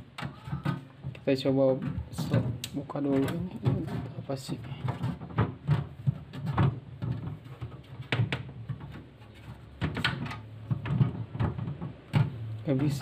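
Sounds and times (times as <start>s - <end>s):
plastic parts clicking and knocking: 0.0s - 13.0s.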